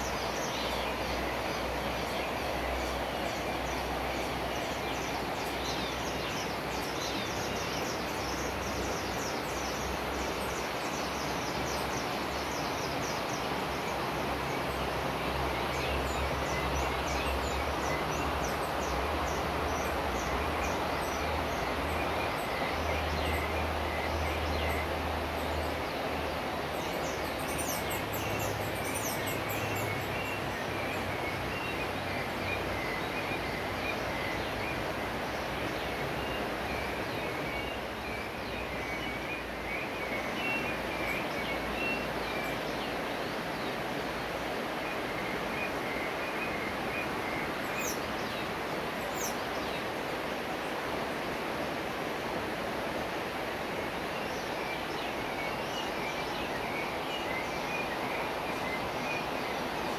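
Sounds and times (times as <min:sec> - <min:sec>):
rushing background noise: 0:00.0 - 0:59.9.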